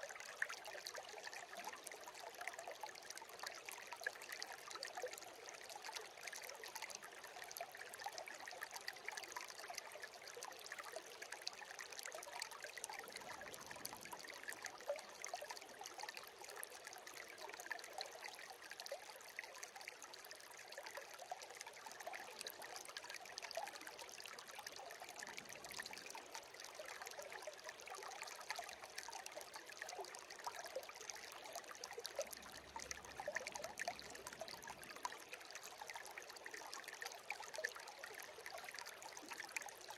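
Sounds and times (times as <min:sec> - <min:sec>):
brook trickling and babbling: 0:00.0 - 0:39.9.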